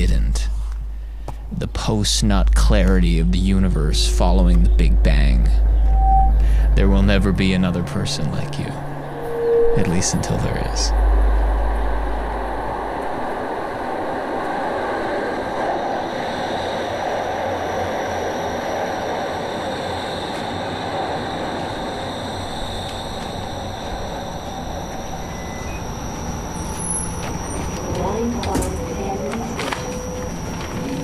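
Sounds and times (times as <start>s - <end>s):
faint high whine: 0.0s - 31.0s
train rumbling on rails: 0.0s - 31.0s.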